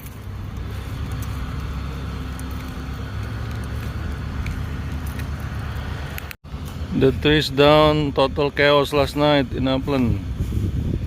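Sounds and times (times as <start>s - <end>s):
low rumbling outdoor noise: 0.0s - 11.0s.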